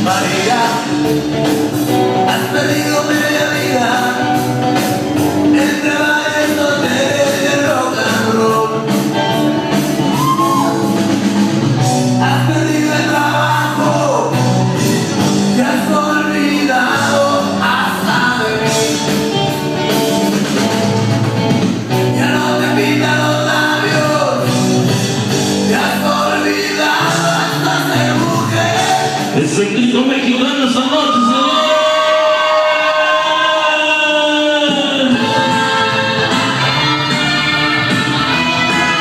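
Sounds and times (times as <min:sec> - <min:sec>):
rock song over sound system: 0:00.0 - 0:39.0.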